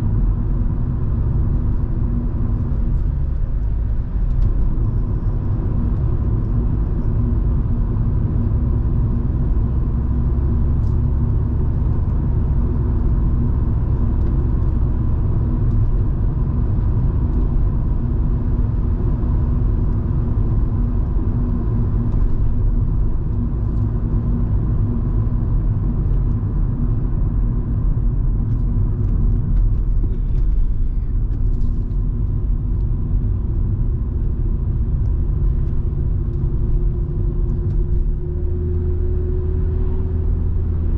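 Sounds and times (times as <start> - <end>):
engine and road rumble: 0.0 - 40.9.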